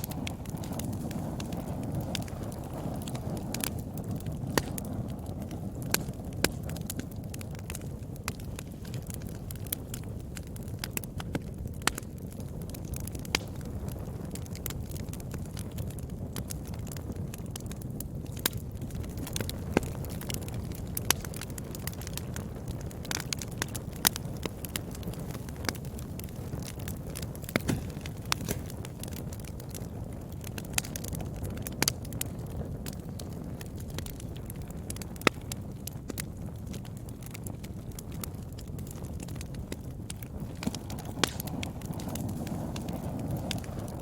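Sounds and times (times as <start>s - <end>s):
fire crackles and pops: 0.0s - 44.0s
wood fire burning: 0.0s - 44.0s.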